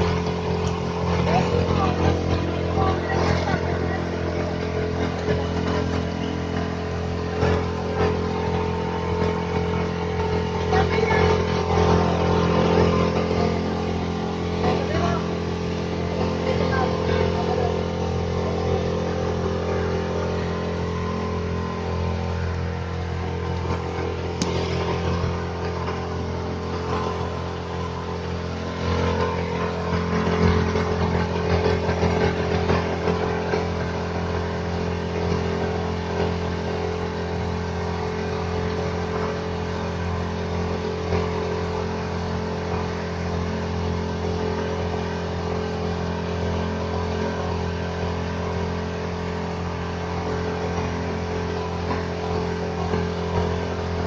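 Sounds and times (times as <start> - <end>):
motorboat engine droning: 0.0 - 54.0.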